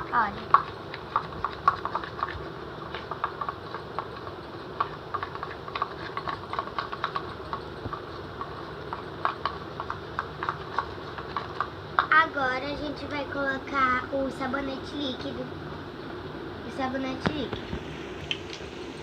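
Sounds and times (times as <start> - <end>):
steady low background noise: 0.0 - 19.0.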